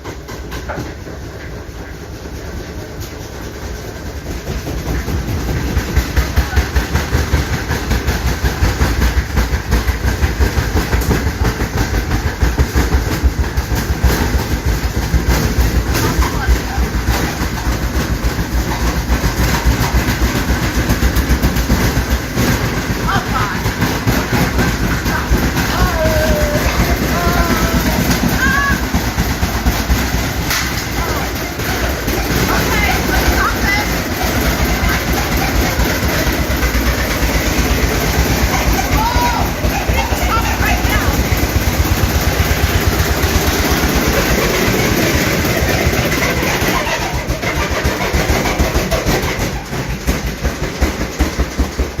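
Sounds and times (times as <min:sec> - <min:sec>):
washing machine rumbling and rattling: 0:00.0 - 0:52.0.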